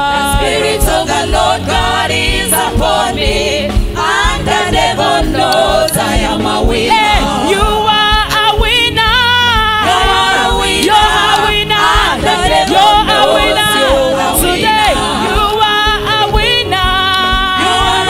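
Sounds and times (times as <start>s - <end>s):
instrumental backing with beat: 0.0s - 18.0s
women singing gospel song: 0.0s - 18.0s.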